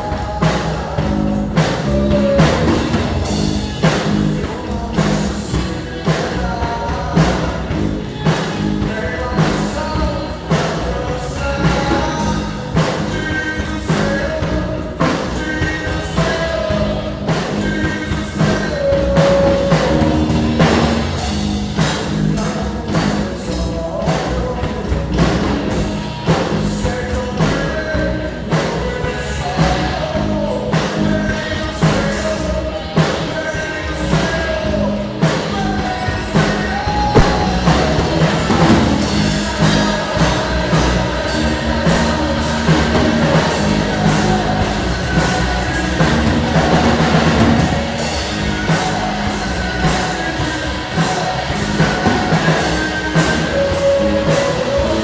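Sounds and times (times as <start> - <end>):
drum kit: 0.0 - 55.0
loud rock music: 0.0 - 55.0
person singing: 0.0 - 55.0.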